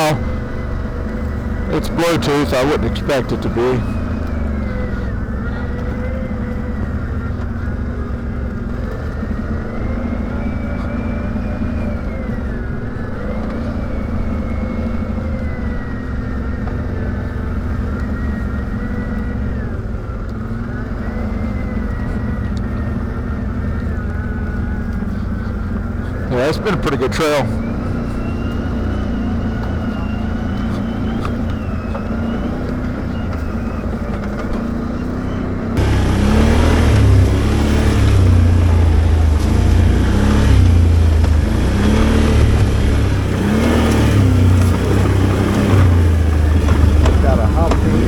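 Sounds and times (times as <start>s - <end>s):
atv engine running: 0.0s - 48.0s.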